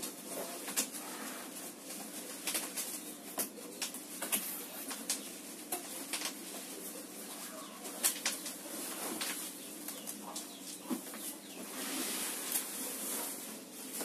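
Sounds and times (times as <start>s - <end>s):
cardboard and plastic crinkling: 0.0s - 14.0s.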